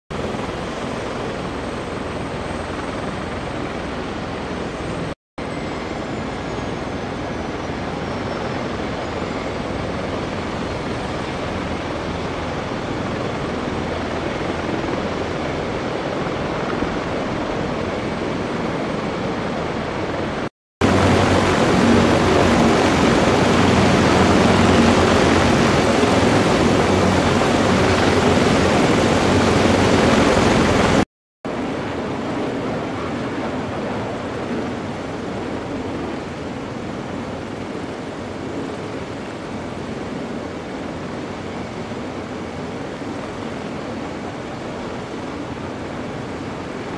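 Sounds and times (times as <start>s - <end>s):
helicopter turbine and rotor noise: 0.1s - 46.9s.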